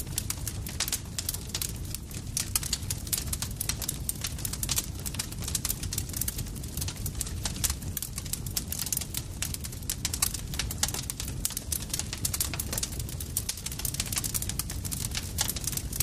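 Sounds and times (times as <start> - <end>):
campfire crackling and popping: 0.0 - 16.0
low rumble of fire: 0.0 - 16.0.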